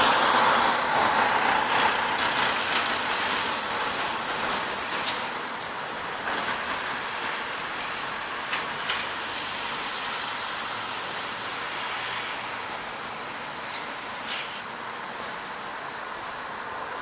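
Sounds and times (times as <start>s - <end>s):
passing vehicle engine and tyres: 0.0s - 17.0s.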